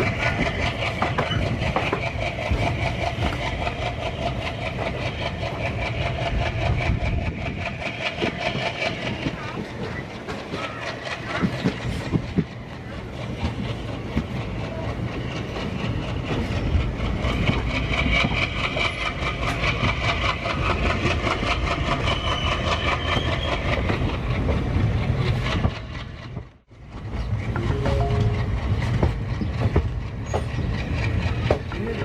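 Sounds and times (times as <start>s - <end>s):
low train rumble: 0.0s - 32.0s
train wheels clattering on track: 0.0s - 32.0s.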